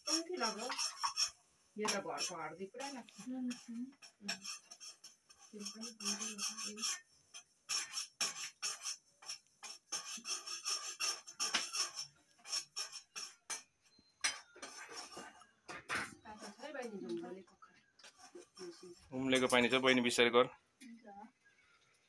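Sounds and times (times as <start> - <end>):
utensil scraping in a pot: 0.0 - 20.2.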